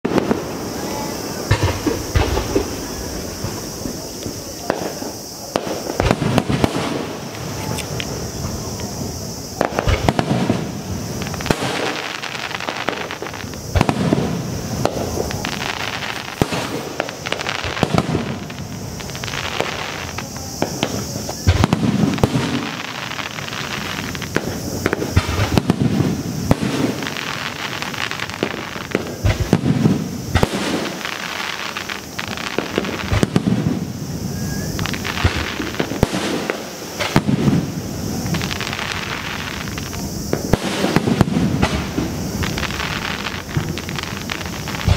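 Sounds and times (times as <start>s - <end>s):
firework booms: 0.0s - 44.9s
firework crackling: 0.0s - 44.9s.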